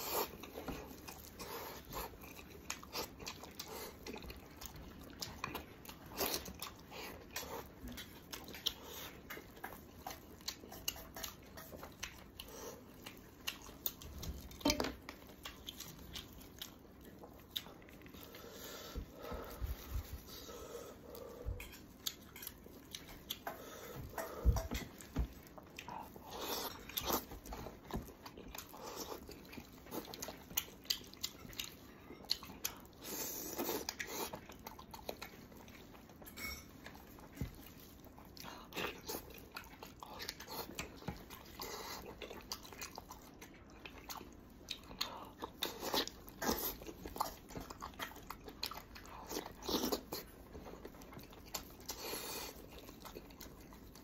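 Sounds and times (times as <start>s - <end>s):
person biting and chewing meat: 0.0s - 54.0s.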